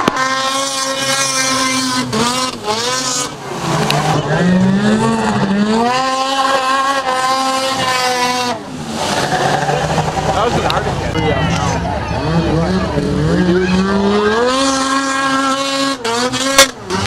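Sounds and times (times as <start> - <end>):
snowmobile engines revving: 0.0 - 17.0.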